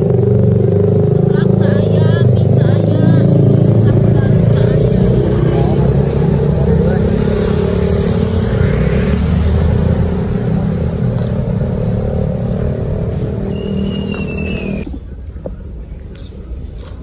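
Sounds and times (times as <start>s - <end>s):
vehicle engine running: 0.0s - 15.3s.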